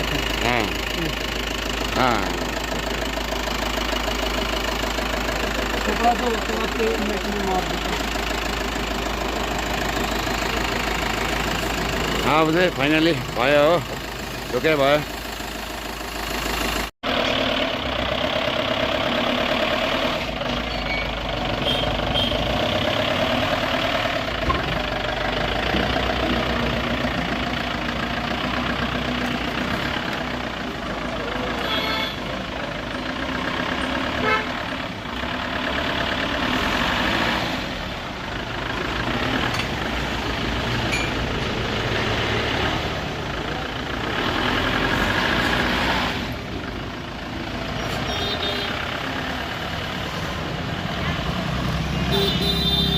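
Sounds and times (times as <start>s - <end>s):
road traffic noise: 0.0s - 52.9s.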